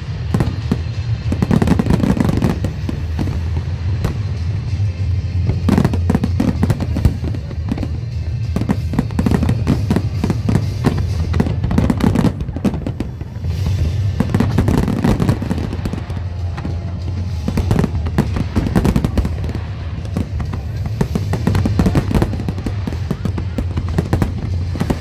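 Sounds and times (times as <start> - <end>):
fireworks bangs and crackles: 0.0 - 25.0
music: 0.0 - 25.0.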